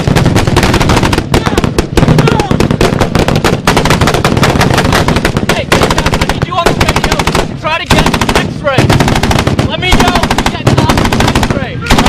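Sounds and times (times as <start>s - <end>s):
automatic gunfire: 0.0s - 12.0s.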